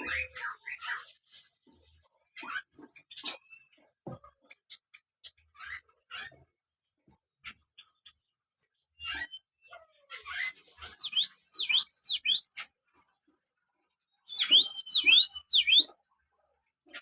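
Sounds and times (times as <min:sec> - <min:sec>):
bird chirping calls: 0:00.0 - 0:17.0.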